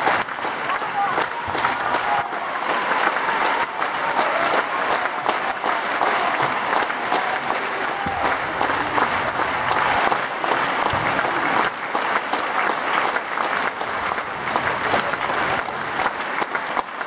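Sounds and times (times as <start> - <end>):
audience applauding: 0.0 - 17.0
chorus clapping on stage: 0.0 - 17.0.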